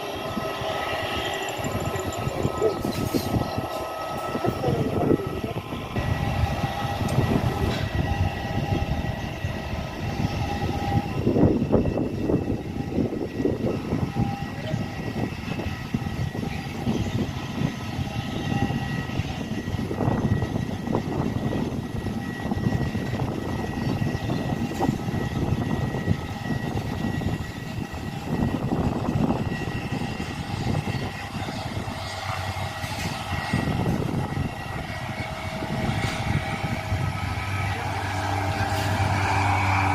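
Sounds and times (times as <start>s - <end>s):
high steady engine tones: 0.0s - 39.9s
turboprop engine rumble: 0.0s - 39.9s.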